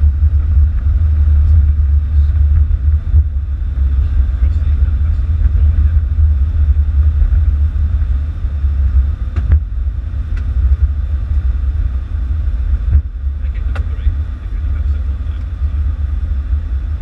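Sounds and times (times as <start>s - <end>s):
heavy rumble of aircraft rolling: 0.0s - 17.0s.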